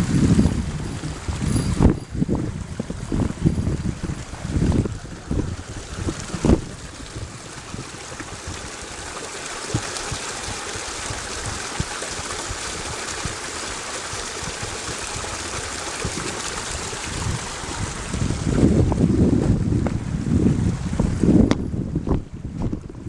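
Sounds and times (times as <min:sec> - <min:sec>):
wind bumps on microphone: 0:00.0 - 0:09.1, 0:09.7 - 0:23.0
mountain stream rushing: 0:00.0 - 0:21.4.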